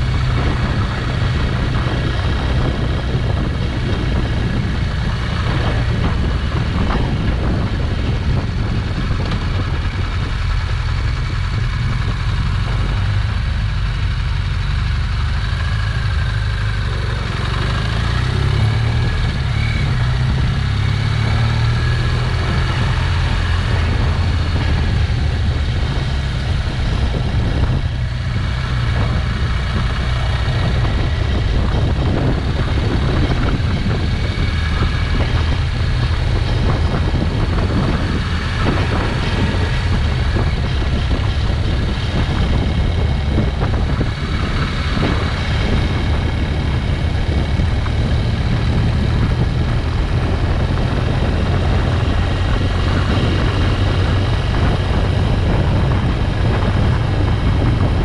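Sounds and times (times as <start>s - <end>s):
motorcycle engine cruising: 0.0s - 58.0s
wind rumble on microphone: 0.0s - 58.0s.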